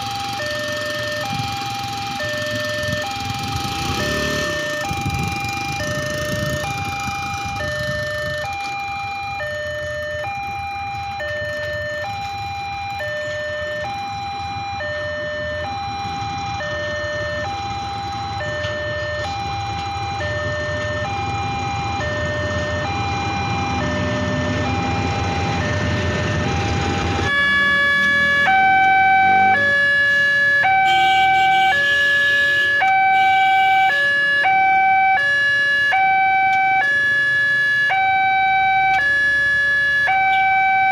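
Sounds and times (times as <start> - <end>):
level crossing alarm tones: 0.0 - 40.9.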